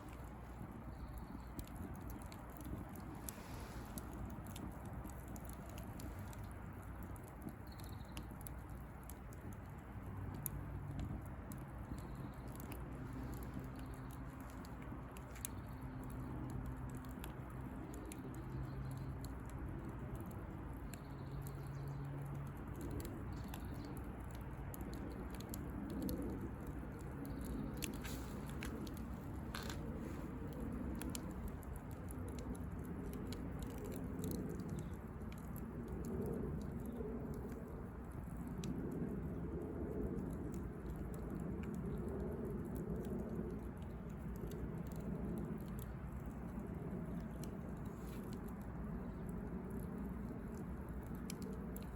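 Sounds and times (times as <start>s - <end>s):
bonfire crackling and popping: 0.0s - 51.9s.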